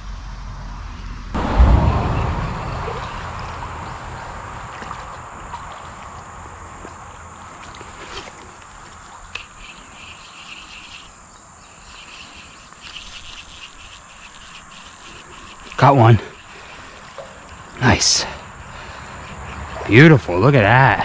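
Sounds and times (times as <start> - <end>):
insects chirping in rapid pulses: 0.1 - 21.0.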